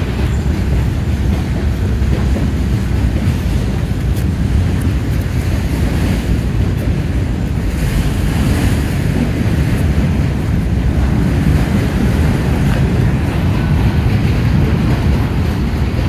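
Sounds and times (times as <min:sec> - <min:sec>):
freight train rumbling past: 0:00.0 - 0:16.0
wind buffeting microphone: 0:00.0 - 0:16.0.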